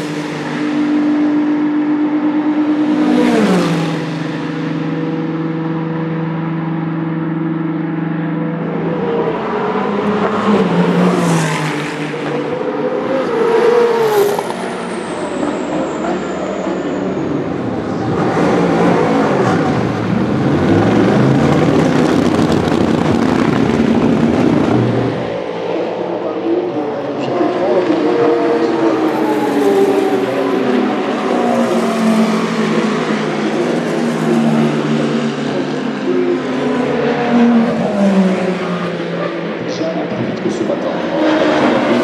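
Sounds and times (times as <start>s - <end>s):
race cars passing at speed: 0.0s - 42.0s.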